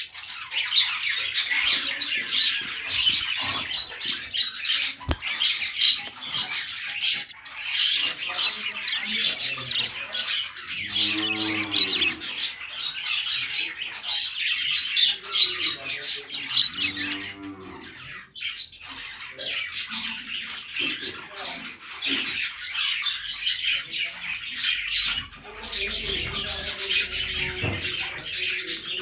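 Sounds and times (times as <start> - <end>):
budgerigars chirping and warbling: 0.0 - 29.0.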